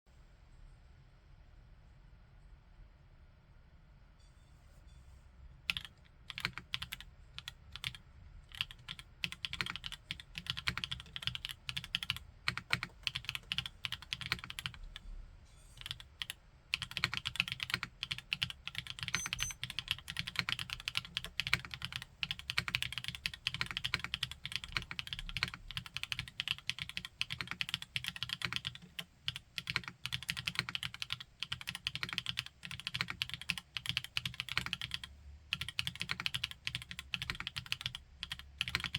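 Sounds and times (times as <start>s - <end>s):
mechanical keyboard typing: 5.7s - 15.0s, 15.8s - 38.9s.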